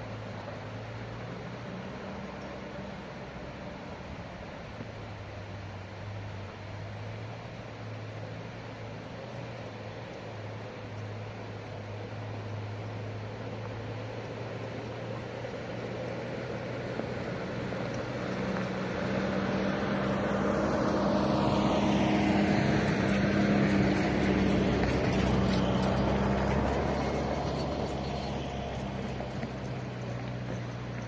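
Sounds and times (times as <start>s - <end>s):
vehicle passing by: 0.0s - 31.0s.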